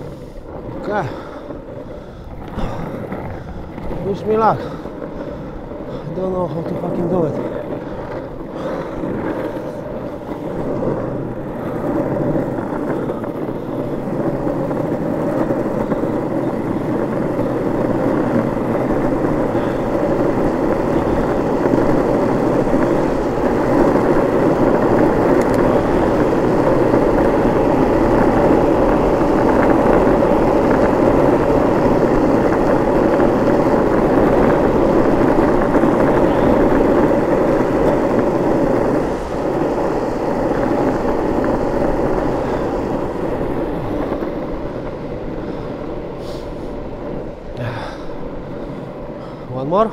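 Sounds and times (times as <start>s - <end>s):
longboard wheels rolling on tarmac: 0.0s - 49.9s.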